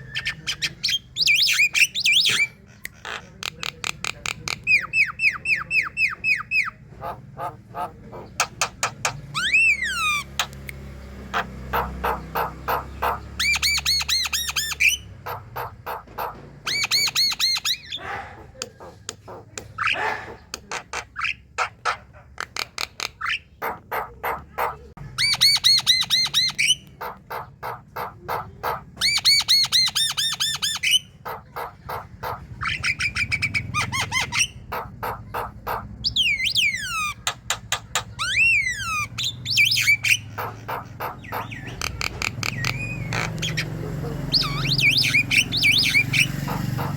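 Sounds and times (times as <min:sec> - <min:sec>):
myna chattering and squawking: 0:00.0 - 0:46.9.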